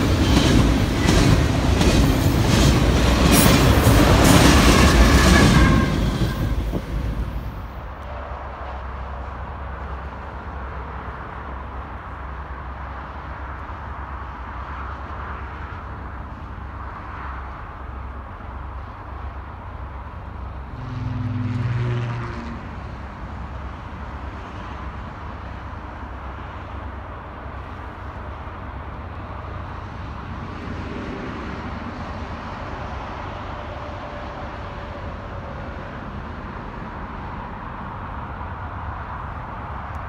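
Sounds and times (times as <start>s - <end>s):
distant diesel locomotives droning: 0.0s - 40.0s.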